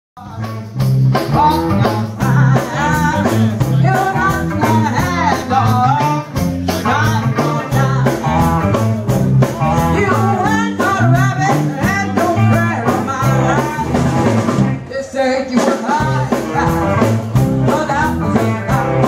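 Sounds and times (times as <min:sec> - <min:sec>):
woman singing lead: 0:00.2 - 0:08.8, 0:09.4 - 0:19.0
rock band playing: 0:00.2 - 0:19.0.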